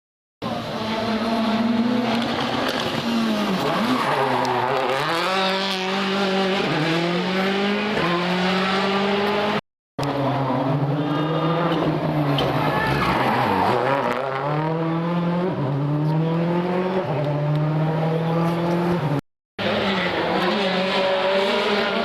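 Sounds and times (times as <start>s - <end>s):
rally car engine revving: 0.4s - 22.0s.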